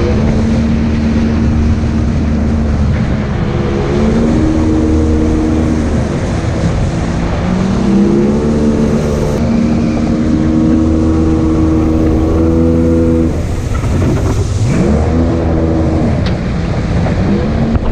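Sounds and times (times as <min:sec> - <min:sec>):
jet boat engine running hard: 0:00.0 - 0:17.9
rushing water: 0:00.0 - 0:17.9
wind: 0:00.0 - 0:17.9.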